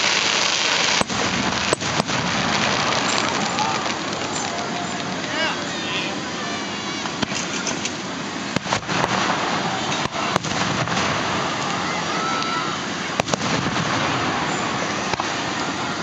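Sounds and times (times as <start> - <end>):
fireworks shells bursting: 0.0 - 5.4, 7.0 - 15.9.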